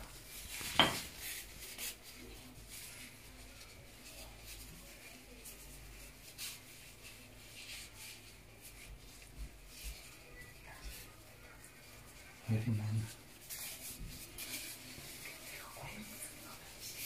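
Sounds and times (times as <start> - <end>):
gloved hands rustling dough: 0.0 - 17.0.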